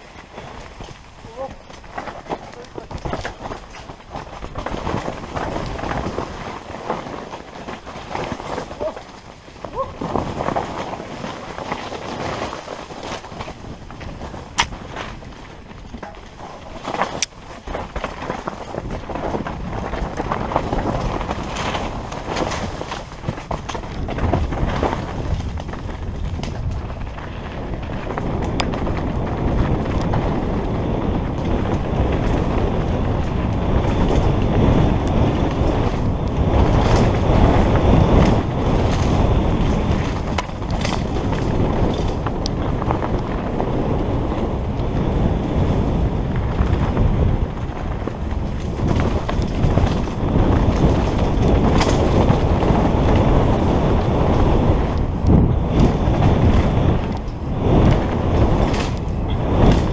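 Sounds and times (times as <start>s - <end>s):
bicycle tyres on dirt: 0.0s - 59.9s
bike clacking and rattling: 0.0s - 59.9s
wind rushing over microphone: 0.0s - 59.9s.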